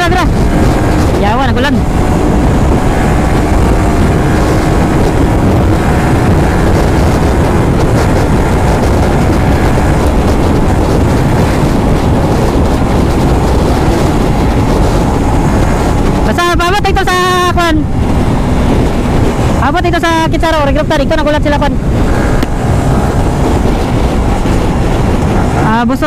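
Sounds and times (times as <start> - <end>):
motorcycle engine running: 0.0 - 26.0
wind rush on microphone: 0.0 - 26.0.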